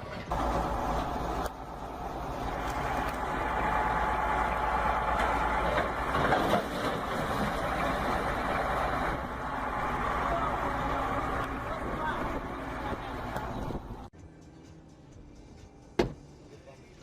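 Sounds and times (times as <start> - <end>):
heavy vehicle engine droning: 0.0 - 15.9.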